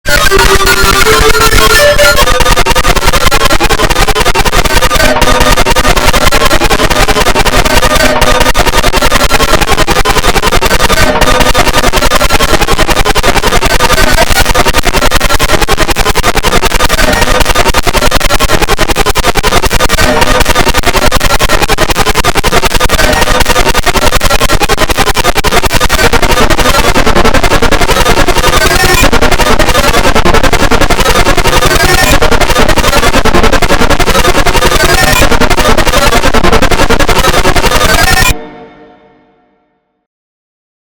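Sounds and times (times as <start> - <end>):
distorted electronic alarm tones: 0.0 - 39.2.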